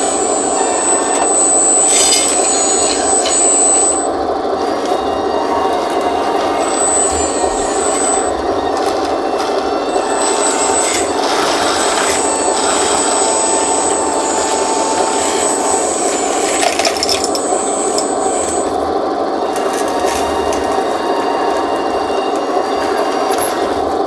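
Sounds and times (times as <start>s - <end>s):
electric motors buzzing hum: 0.0s - 24.0s
thin high whine: 0.0s - 24.0s.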